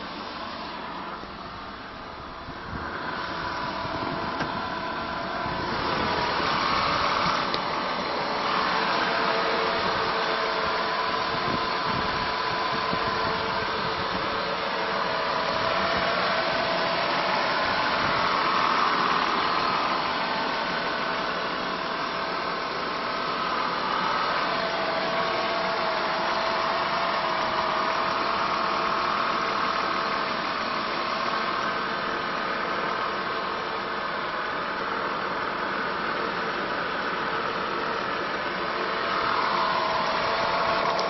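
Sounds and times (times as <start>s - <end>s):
car engine idling: 0.0s - 41.0s
supercharger whine: 0.0s - 41.0s.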